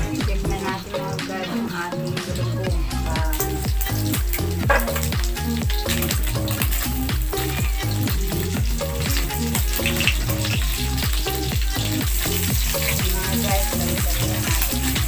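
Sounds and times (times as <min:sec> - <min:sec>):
background music with bass beat: 0:00.0 - 0:15.0
fish sizzling in oil: 0:00.0 - 0:15.0.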